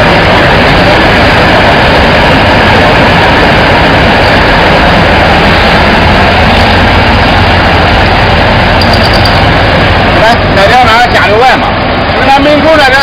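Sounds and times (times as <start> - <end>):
low hum: 0.0 - 12.2
furnace machine noise: 0.0 - 13.0.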